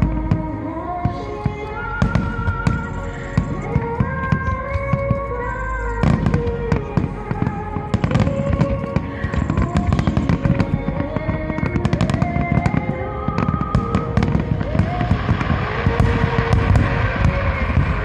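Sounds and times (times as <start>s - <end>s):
fireworks bursting and crackling: 0.0s - 18.0s
slow music with held notes: 0.0s - 18.0s.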